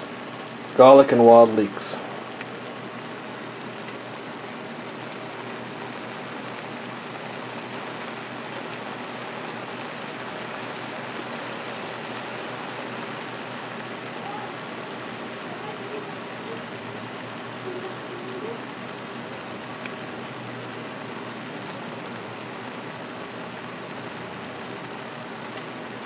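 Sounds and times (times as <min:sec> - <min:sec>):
mushrooms sizzling in a frying pan: 0:00.0 - 0:26.0.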